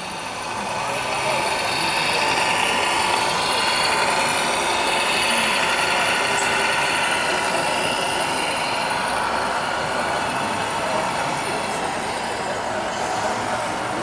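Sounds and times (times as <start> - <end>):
simulated truck engine noise: 0.0 - 14.0
toy truck drivetrain whirring: 0.0 - 14.0.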